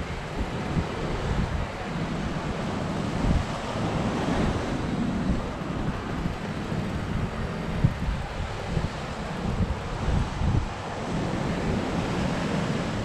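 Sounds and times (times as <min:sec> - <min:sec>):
sea waves on shore: 0:00.0 - 0:13.0
wind buffeting microphone: 0:00.0 - 0:13.0.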